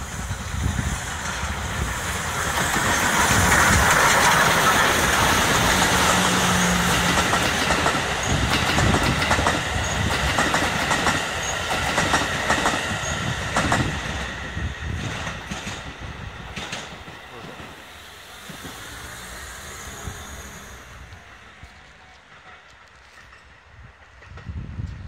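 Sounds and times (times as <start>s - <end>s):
steam locomotive passing: 0.0s - 25.0s
train wheels clicking over rail joints: 0.0s - 25.0s.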